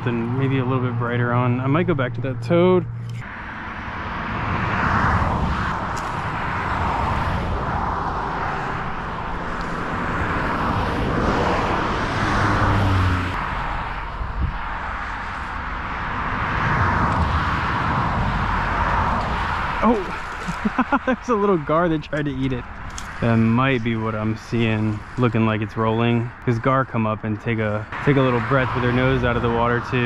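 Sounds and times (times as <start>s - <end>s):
cars passing by: 0.0s - 30.0s.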